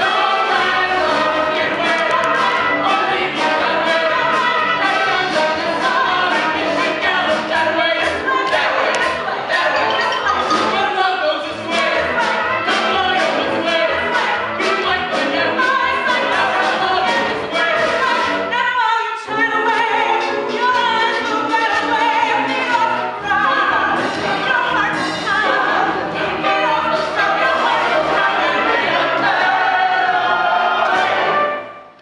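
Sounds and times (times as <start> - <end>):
chorus singing with band: 0.0 - 18.5, 21.3 - 31.6.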